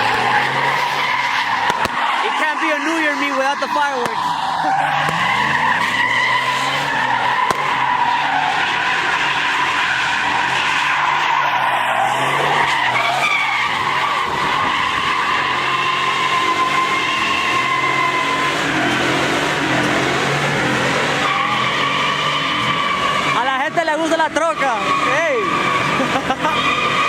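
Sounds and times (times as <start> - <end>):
engine revving: 0.0 - 27.0
tyres squealing: 0.0 - 27.0.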